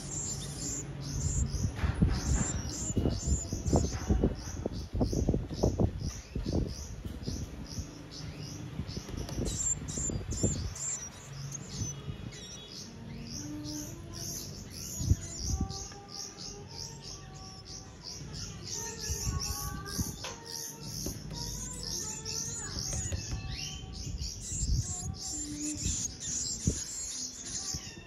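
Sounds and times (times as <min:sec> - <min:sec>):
nestlings begging chirps: 0:00.0 - 0:28.0.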